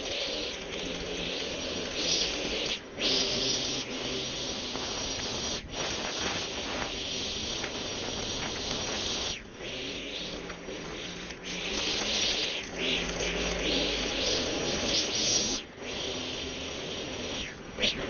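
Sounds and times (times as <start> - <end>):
string trimmer cutting grass: 0.0 - 18.0.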